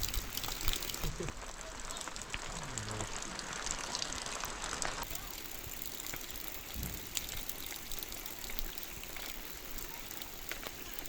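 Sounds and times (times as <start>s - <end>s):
heavy rain falling: 0.0s - 11.0s
trickling runoff: 0.0s - 11.0s.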